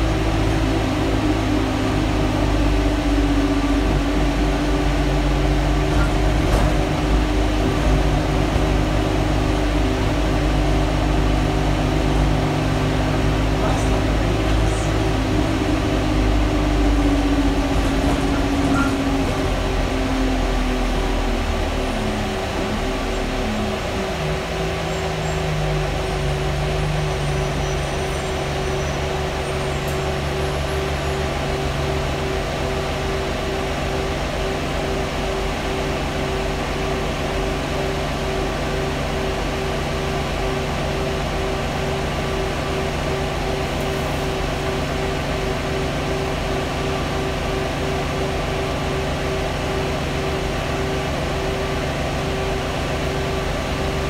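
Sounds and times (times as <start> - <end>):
bus engine drone: 0.0 - 54.0
fan whirring with pulsing hum: 0.0 - 54.0.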